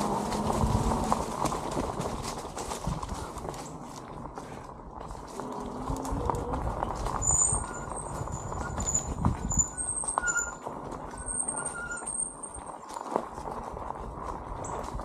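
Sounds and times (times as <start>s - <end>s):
scooter rattling on dirt trail: 0.0s - 15.0s.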